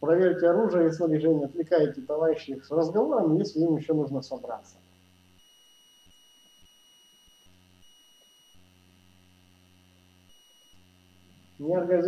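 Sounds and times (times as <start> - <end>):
faint electrical hum: 0.0 - 12.0
thin high-pitched whine: 0.0 - 12.0.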